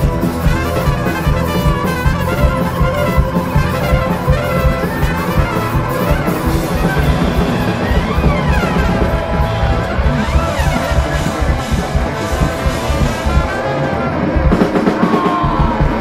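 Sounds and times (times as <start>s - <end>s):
trumpet melody: 0.0s - 14.7s
drums: 0.0s - 16.0s.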